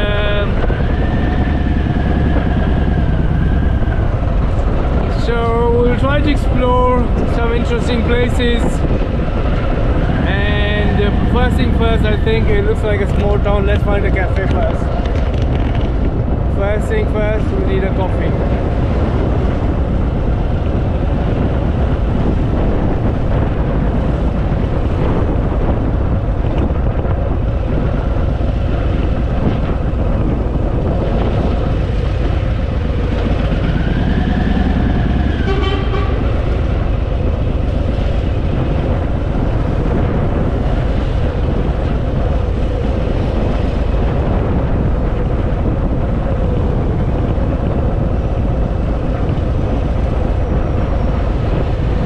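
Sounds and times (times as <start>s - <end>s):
motorcycle engine rumble: 0.0s - 52.0s
road and wind noise: 0.0s - 52.0s.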